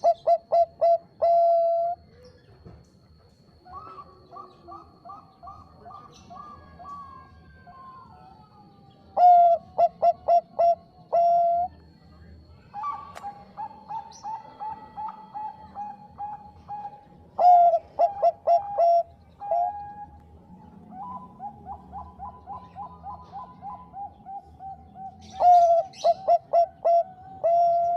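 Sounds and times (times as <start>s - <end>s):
doves rippling coos: 0.0s - 11.9s, 12.7s - 27.9s.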